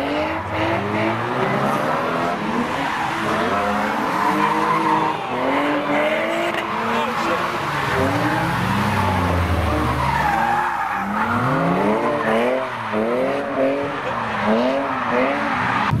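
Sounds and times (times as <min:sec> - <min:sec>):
car engines revving: 0:00.0 - 0:16.0
tyres skidding and squealing: 0:00.0 - 0:16.0.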